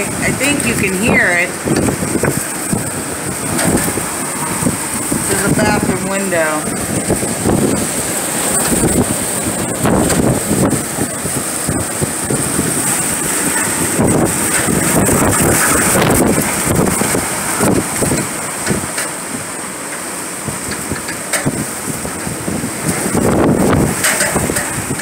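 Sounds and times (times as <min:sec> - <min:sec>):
rain: 0:00.0 - 0:25.0
strong wind gusting: 0:00.0 - 0:25.0.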